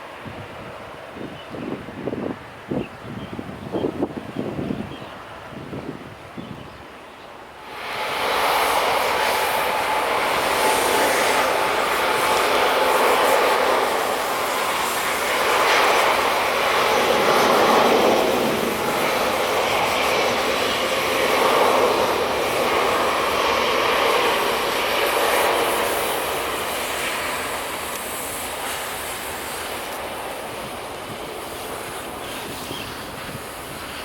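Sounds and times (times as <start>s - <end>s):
jet engines at takeoff: 0.0s - 34.0s.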